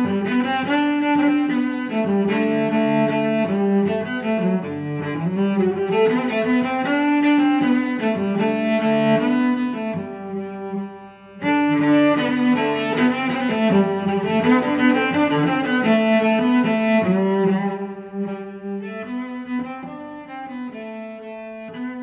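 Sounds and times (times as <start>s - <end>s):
bowed strings music: 0.0s - 22.0s.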